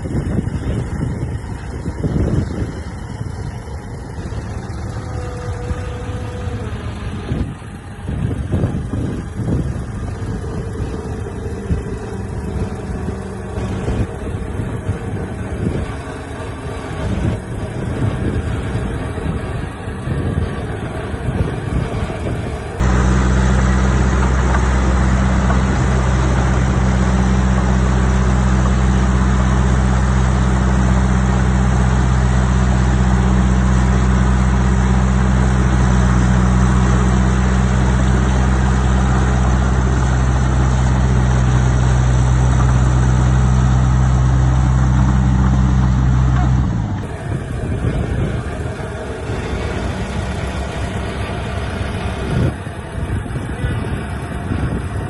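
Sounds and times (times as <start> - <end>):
heavy diesel engine droning: 0.0 - 55.0
rough engine noise: 0.0 - 55.0.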